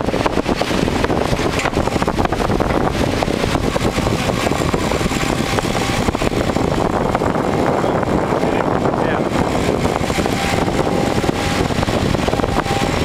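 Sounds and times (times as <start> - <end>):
diesel engine running: 0.0 - 13.0
hydraulic breaker hammering concrete: 0.0 - 13.0.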